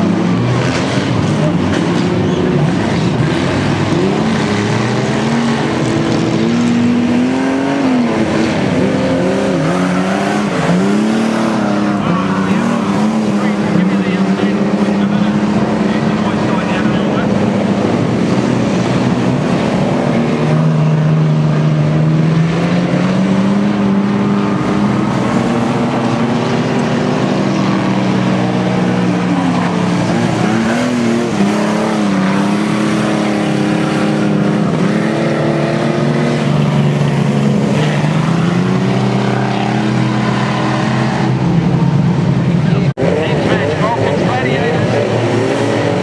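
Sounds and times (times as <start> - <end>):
race car engines revving: 0.0 - 46.0.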